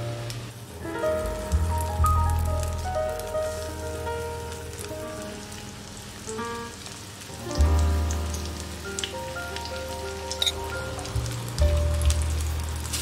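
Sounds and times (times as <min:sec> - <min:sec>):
background music: 0:00.0 - 0:13.0
batter sizzling in hot oil: 0:00.0 - 0:13.0.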